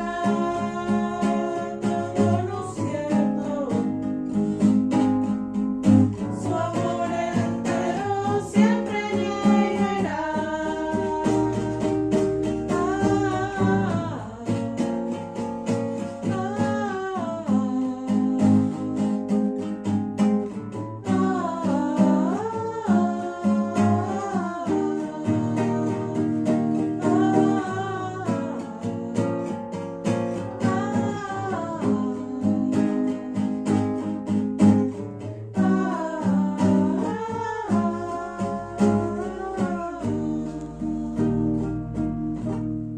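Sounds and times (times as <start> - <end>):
person singing: 0.0 - 5.0, 5.8 - 14.9, 16.0 - 19.4, 20.9 - 42.6
acoustic guitar playing: 0.0 - 42.9.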